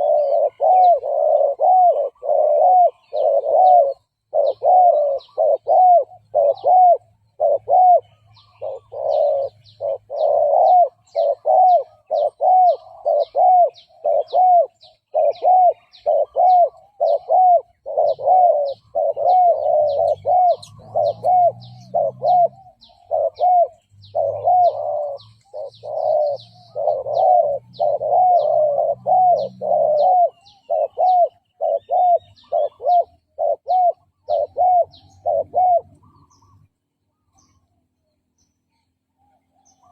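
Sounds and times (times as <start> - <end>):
dove cooing: 0.0 - 36.7, 39.2 - 39.9.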